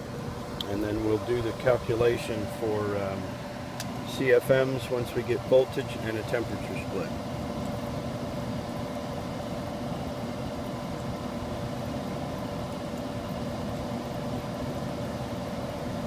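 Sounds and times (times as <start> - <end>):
air handler rushing hum: 0.0 - 16.0.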